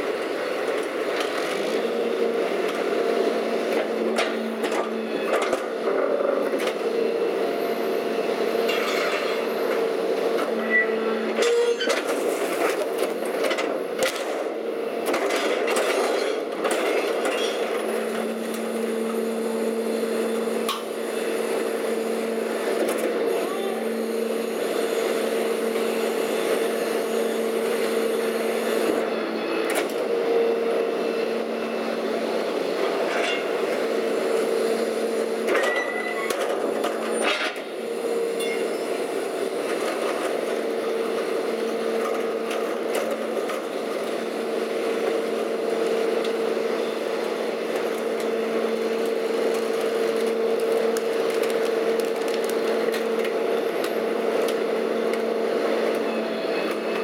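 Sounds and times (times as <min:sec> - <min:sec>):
garbage truck engine droning: 0:00.0 - 0:57.0.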